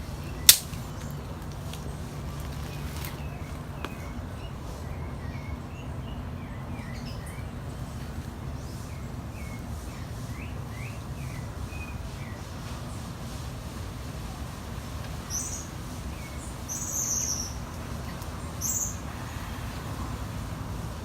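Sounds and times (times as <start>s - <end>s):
small birds chirping: 0.0s - 13.1s, 15.0s - 21.0s
low outdoor rumble: 0.0s - 21.0s.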